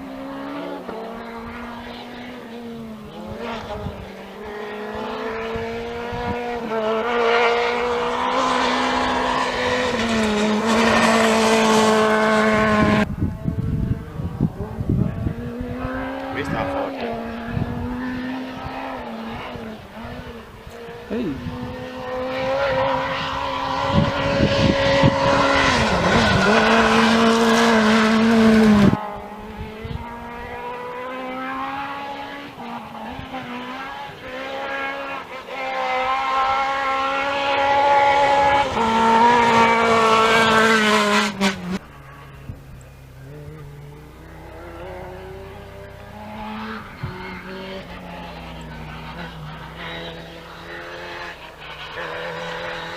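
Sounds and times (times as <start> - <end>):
quieter engine: 0.0 - 52.9
rally car engines revving: 0.0 - 52.9.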